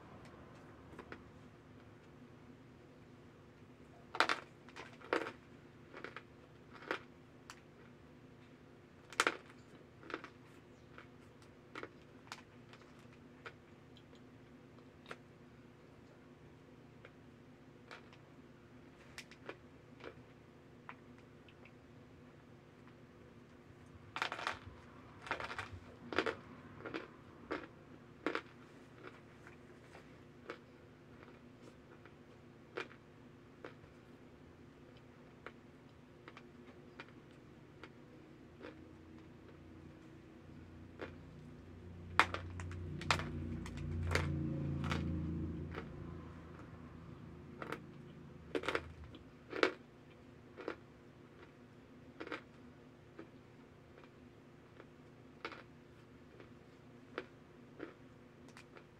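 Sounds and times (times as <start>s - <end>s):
faint steady hum: 0.0s - 58.9s
crisp chewing crunches: 4.1s - 8.0s, 9.0s - 15.3s, 17.8s - 18.3s, 19.0s - 21.8s, 22.8s - 34.2s, 34.8s - 39.6s, 40.5s - 58.9s.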